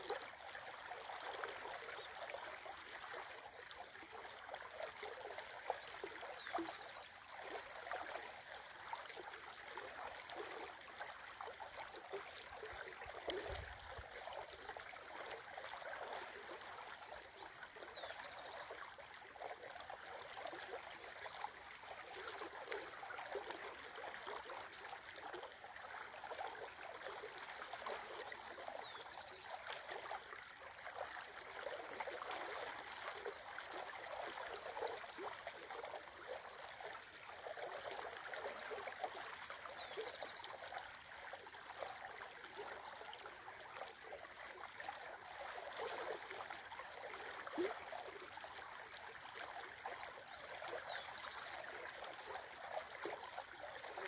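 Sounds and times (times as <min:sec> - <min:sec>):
river water rushing and trickling: 0:00.0 - 0:54.0.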